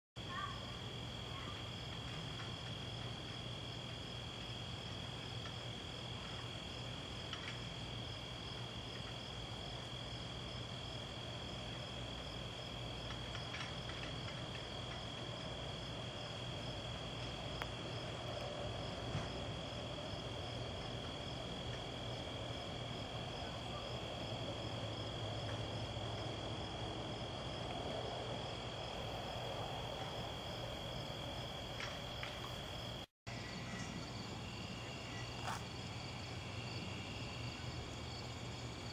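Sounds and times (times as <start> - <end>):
crickets chirping: 0.2 - 38.9.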